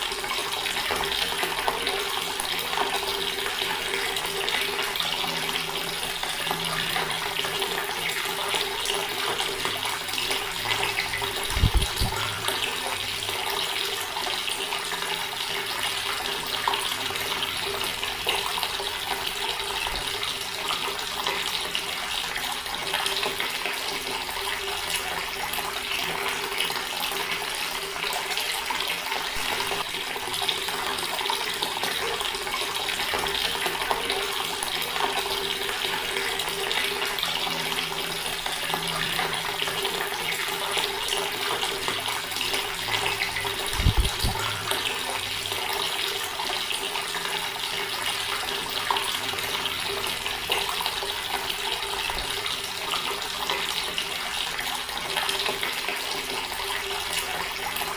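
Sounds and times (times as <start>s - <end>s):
water running from a tap: 0.0s - 57.9s.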